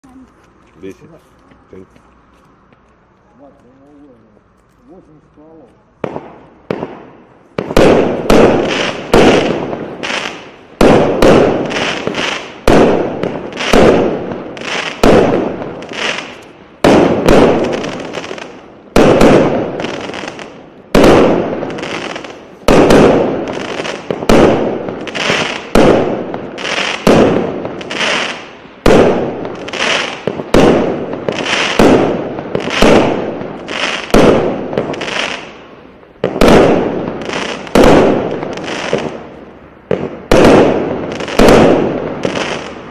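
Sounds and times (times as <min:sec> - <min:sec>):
firework shots: 0:03.4 - 0:42.9.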